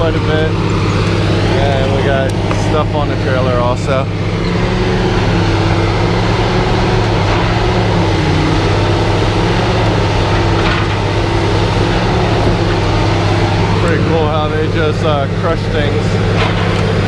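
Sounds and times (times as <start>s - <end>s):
heavy engine droning: 0.0s - 17.0s.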